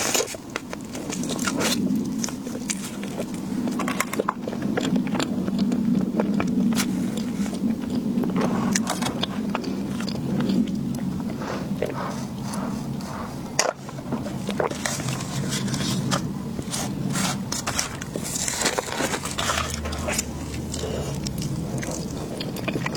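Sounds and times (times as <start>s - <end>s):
person chewing: 0.0s - 22.9s
steady low hum: 0.0s - 22.9s.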